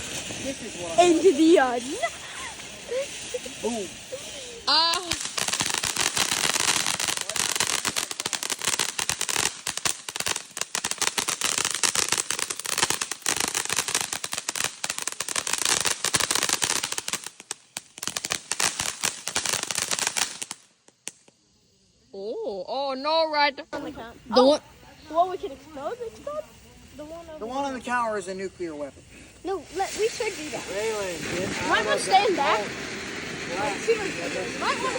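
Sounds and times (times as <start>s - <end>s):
fireworks crackling: 0.0s - 22.0s, 23.0s - 34.9s.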